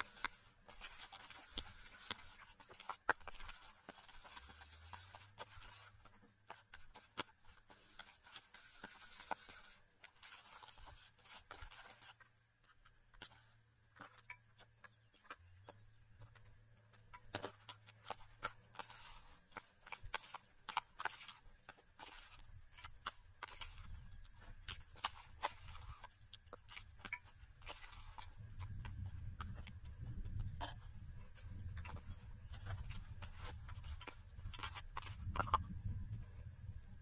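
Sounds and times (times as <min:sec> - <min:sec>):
spoon scraping plastic bowl: 0:00.0 - 0:36.4.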